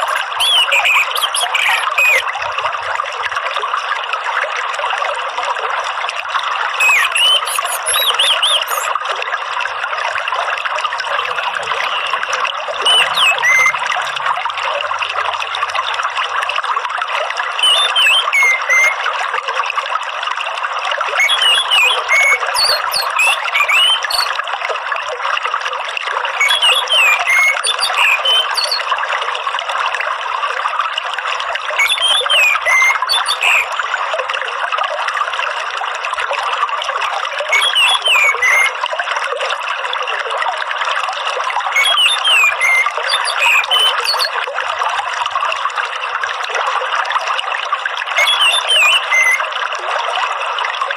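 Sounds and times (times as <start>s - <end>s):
trickling water: 0.0s - 50.9s.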